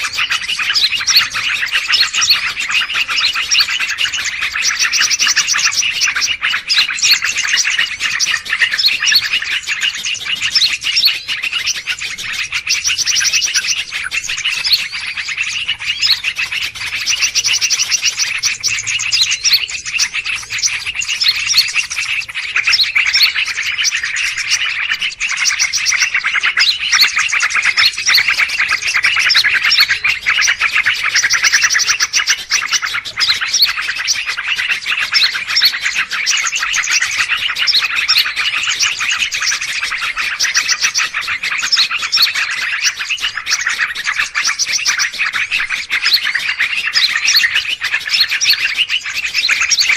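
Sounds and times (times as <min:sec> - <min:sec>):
many small birds chirping and trilling: 0:00.0 - 0:49.9.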